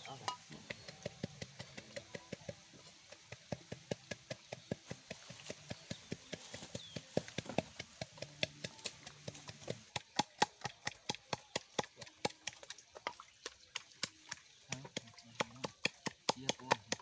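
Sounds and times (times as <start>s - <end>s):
pestle pounding in mortar: 0.0s - 17.0s.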